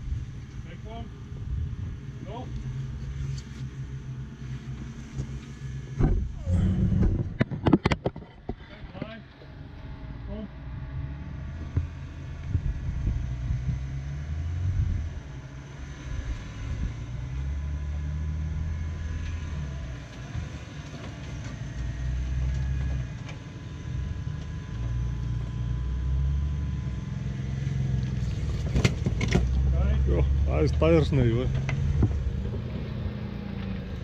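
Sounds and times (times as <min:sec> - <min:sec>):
car engine revving at low revs: 0:00.0 - 0:34.0.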